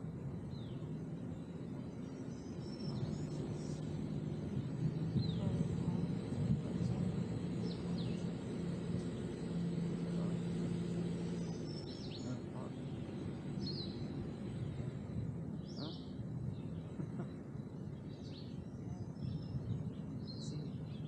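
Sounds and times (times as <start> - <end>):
road and outdoor noise: 0.0 - 21.0
vehicle engine hum: 0.0 - 21.0
bird chirping: 0.2 - 21.0.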